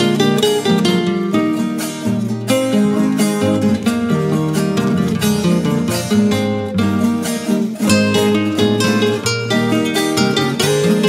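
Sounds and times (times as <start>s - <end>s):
plucked guitar melody over chords: 0.0s - 11.0s.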